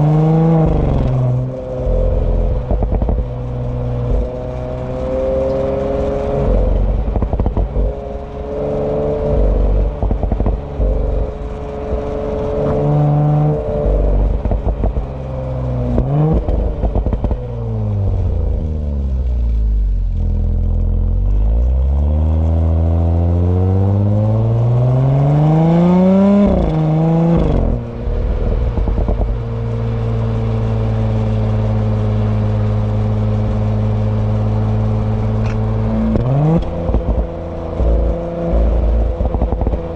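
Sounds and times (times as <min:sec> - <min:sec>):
car engine accelerating: 0:00.0 - 0:39.9
car exhaust with crackles: 0:00.0 - 0:39.9.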